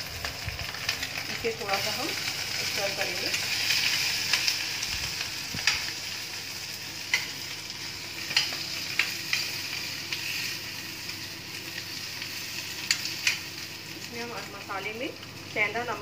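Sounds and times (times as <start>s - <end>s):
frying hiss: 0.0s - 16.0s.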